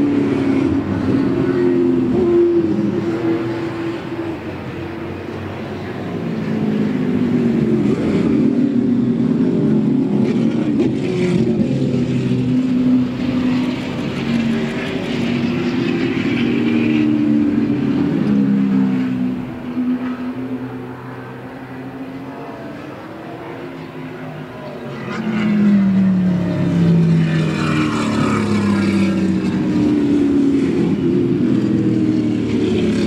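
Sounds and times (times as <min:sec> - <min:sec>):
race car engines: 0:00.0 - 0:33.0.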